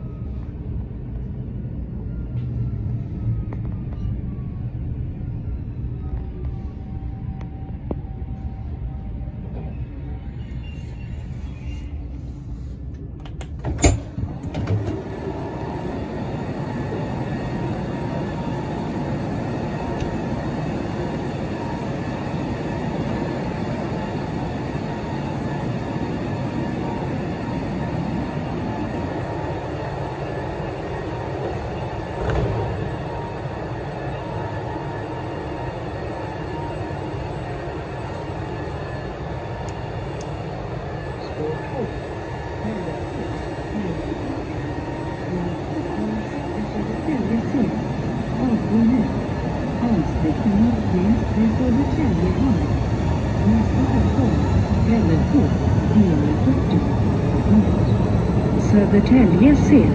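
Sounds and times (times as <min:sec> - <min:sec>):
train equipment humming: 0:00.0 - 0:59.9.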